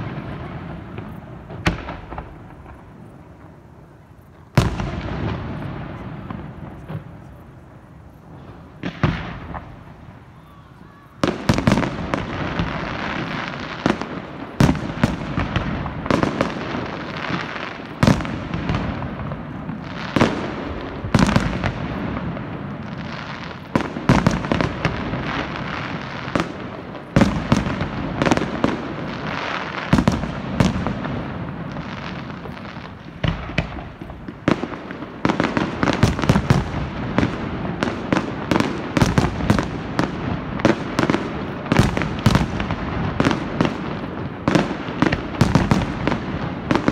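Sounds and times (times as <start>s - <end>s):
firework shells bursting with bangs: 0.0s - 3.6s, 4.2s - 46.9s
fireworks crackling: 0.0s - 46.9s.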